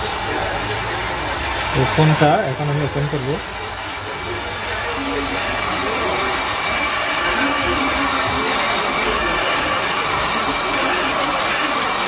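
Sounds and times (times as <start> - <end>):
hot-air blower hissing: 0.0 - 12.0.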